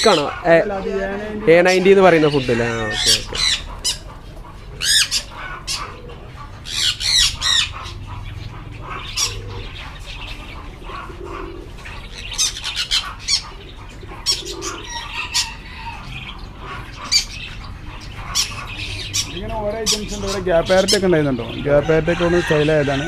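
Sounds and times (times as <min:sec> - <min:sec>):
birds squawking: 0:00.0 - 0:23.0.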